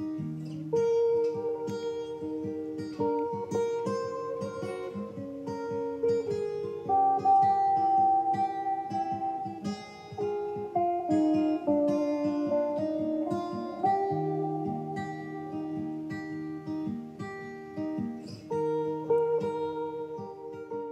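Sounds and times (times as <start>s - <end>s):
guitar picked melody: 0.0s - 20.9s.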